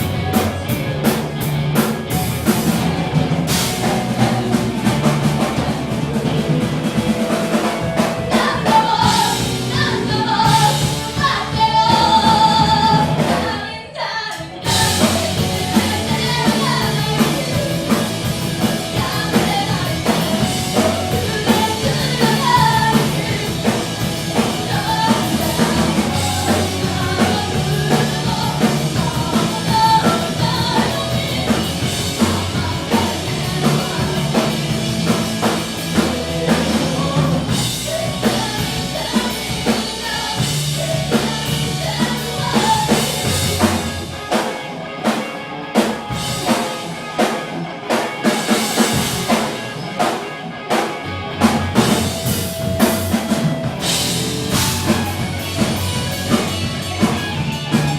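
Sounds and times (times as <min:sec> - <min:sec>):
drum kit: 0:00.0 - 0:57.9
rock music with singing: 0:00.0 - 0:57.9.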